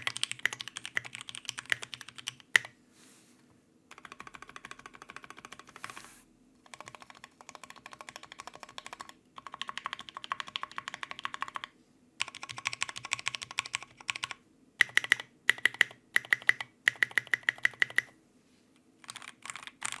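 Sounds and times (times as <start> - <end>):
mechanical keyboard typing: 0.0 - 2.7, 3.9 - 18.1, 19.0 - 20.0.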